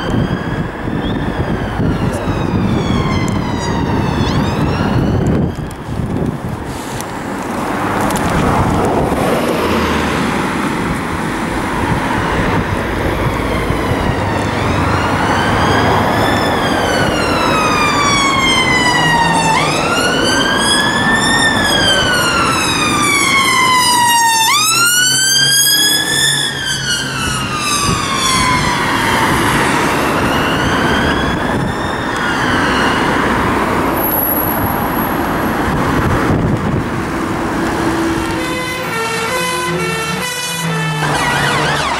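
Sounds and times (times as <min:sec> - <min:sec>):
emergency siren wailing: 0:00.0 - 0:41.9
street traffic: 0:00.0 - 0:41.9.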